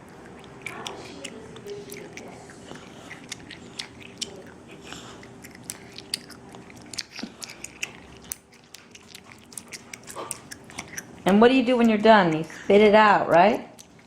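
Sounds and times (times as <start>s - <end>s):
child chewing gum smacking: 0.0s - 14.0s.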